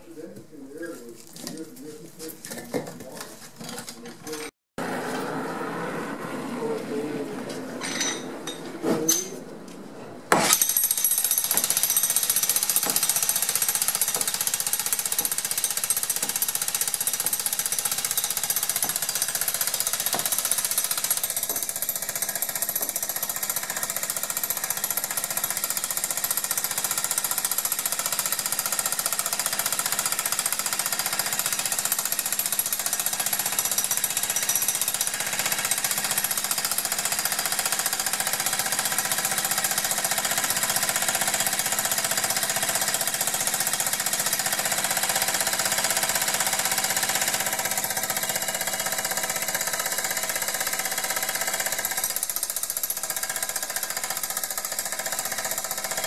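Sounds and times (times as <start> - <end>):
jackhammer breaking concrete: 10.3 - 56.0.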